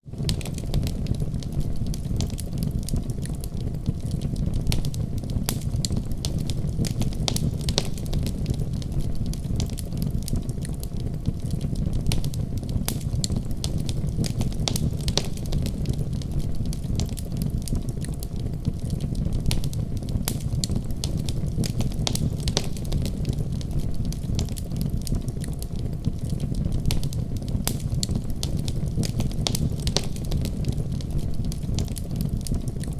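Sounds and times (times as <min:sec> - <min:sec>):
fireplace fire crackling and popping: 0:00.0 - 0:32.9.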